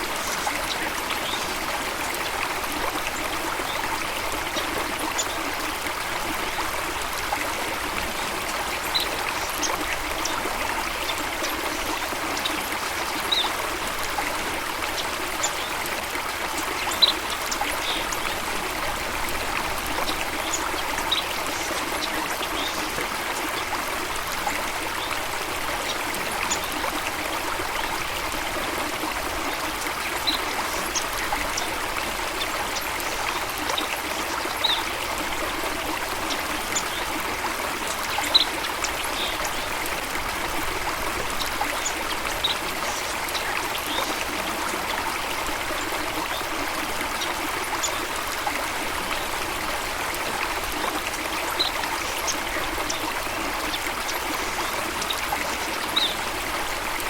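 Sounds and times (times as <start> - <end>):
stream rushing and trickling: 0.0 - 57.0.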